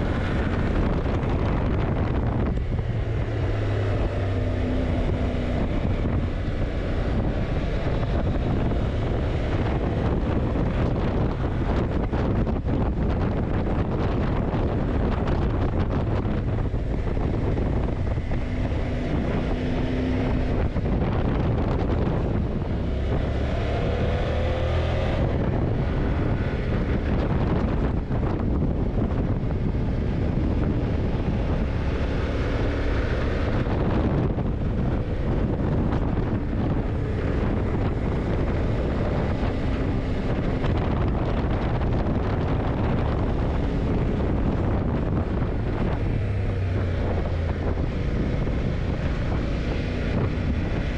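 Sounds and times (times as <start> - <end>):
motorcycle engine running: 0.0 - 50.9
wind rush on microphone: 0.0 - 50.9.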